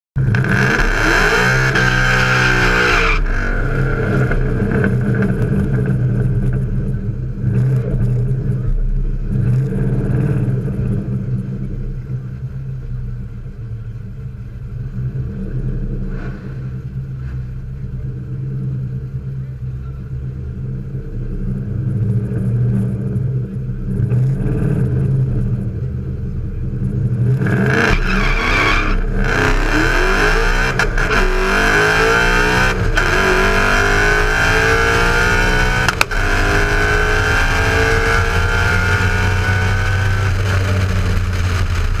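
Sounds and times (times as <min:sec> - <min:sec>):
car engine accelerating: 0:00.2 - 0:42.0
supercharger whine: 0:00.2 - 0:42.0.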